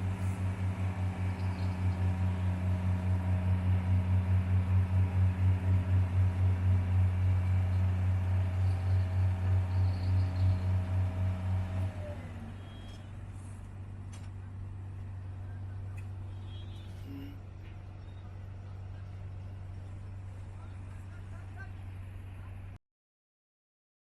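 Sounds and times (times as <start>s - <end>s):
heavy diesel engine droning: 0.0s - 22.8s.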